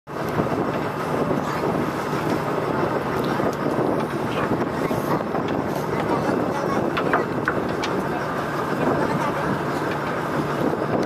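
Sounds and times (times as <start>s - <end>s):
boat engine running: 0.1s - 11.0s
wind buffeting microphone: 0.1s - 11.0s.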